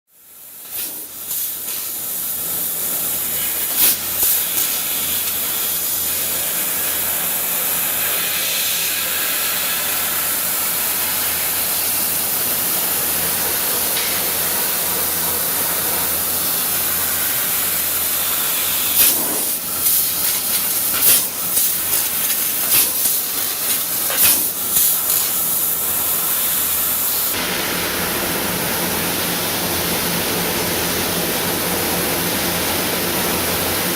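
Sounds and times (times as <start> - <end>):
laser cutting machine hissing: 0.2 - 27.8.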